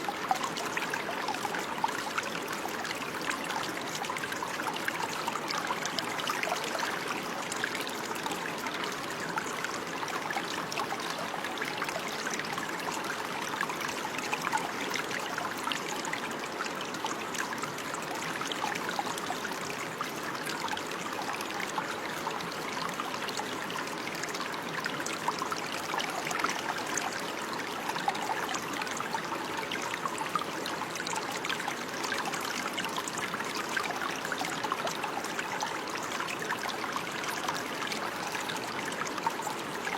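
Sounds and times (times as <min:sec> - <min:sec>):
stream bubbling and trickling: 0:00.0 - 0:39.9.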